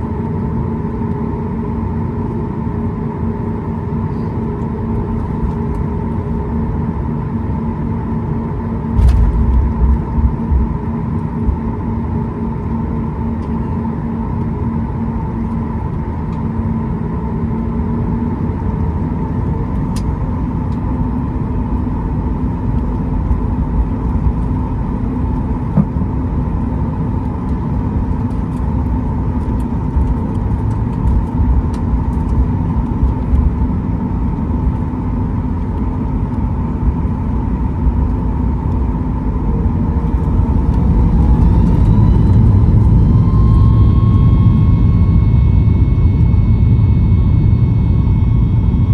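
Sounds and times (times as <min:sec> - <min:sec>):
jet engine rumble and whine in cabin: 0:00.0 - 0:48.9.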